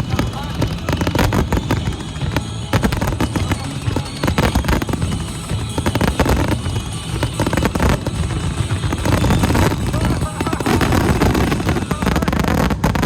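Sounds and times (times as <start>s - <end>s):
fireworks bursts: 0.0s - 13.0s
loud music: 0.0s - 13.0s.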